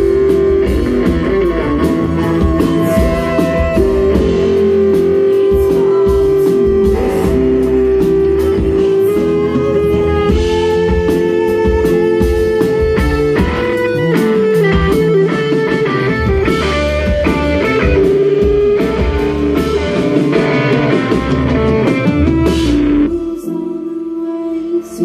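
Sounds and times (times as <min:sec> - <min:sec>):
drum kit: 0:00.0 - 0:24.0
bass guitar: 0:00.0 - 0:25.0
electric guitars: 0:00.0 - 0:25.0
held guitar or keyboard tones: 0:00.0 - 0:25.0.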